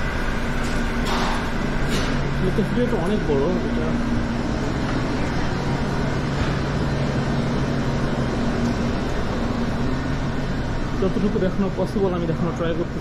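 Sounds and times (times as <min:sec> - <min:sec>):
drink cooler hum: 0:00.0 - 0:13.0
rushing ventilation: 0:00.0 - 0:13.0.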